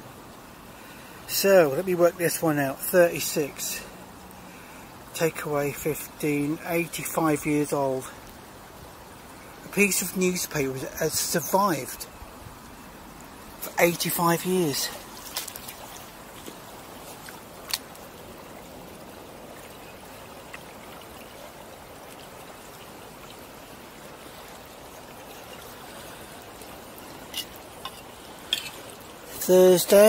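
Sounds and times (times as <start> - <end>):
river water trickling over stones: 0.0 - 30.0.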